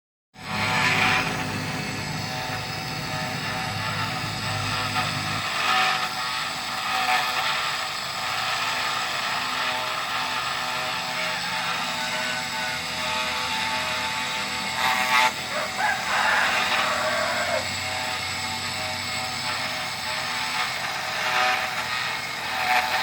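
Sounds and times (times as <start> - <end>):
engraving machine whining: 0.4 - 23.0.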